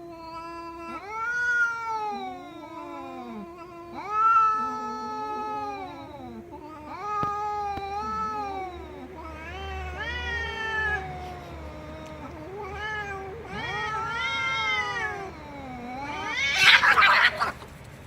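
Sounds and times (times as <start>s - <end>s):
cat yowling: 0.0s - 17.7s.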